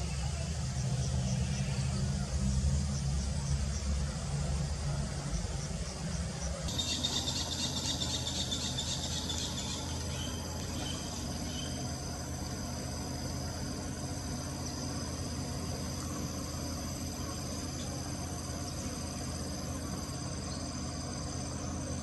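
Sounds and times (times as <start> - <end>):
insects chirring: 0.0 - 22.0
insects trilling: 0.0 - 22.0
low steady rumble: 0.0 - 22.0.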